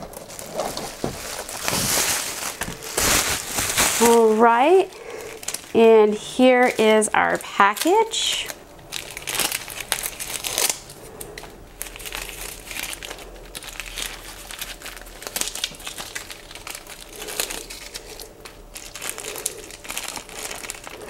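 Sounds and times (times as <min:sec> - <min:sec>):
packaging crinkling and crumpling: 0:00.0 - 0:21.0.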